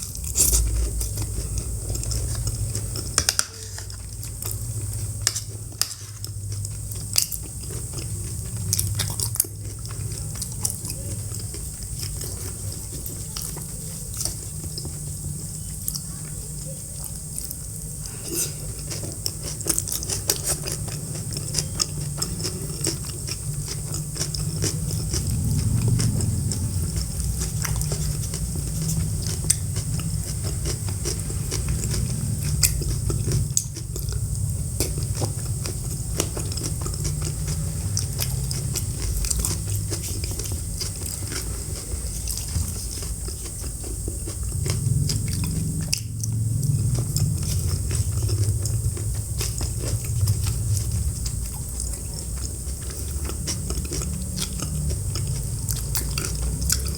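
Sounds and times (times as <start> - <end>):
chewing and biting food: 0.0 - 56.9.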